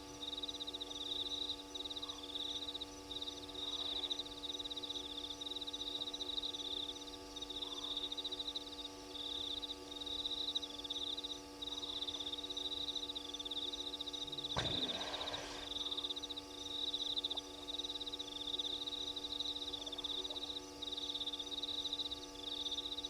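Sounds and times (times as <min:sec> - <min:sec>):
night insects trilling: 0:00.0 - 0:23.0
steady electrical hum: 0:00.0 - 0:23.0.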